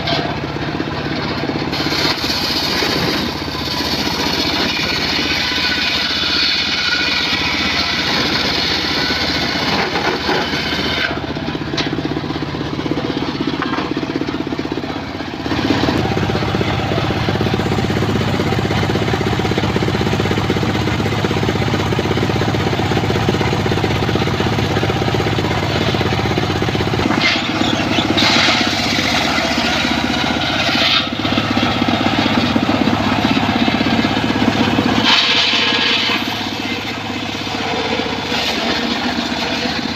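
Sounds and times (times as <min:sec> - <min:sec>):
circular saw cutting wood: 0:01.7 - 0:12.0, 0:12.8 - 0:39.9.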